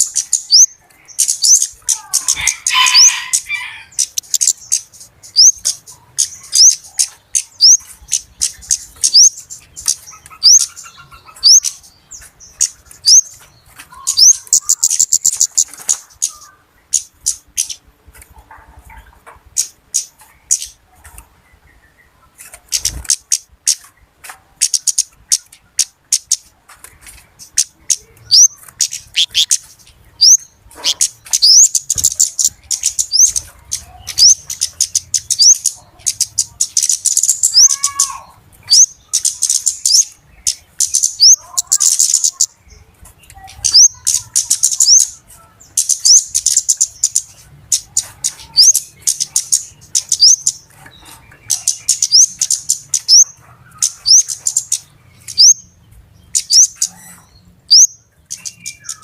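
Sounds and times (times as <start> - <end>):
bird calling with ticking chips: 0.0 - 17.9, 19.0 - 59.0.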